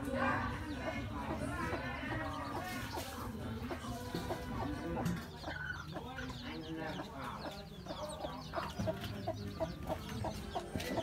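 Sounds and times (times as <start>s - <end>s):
hen clucking: 0.0s - 11.0s.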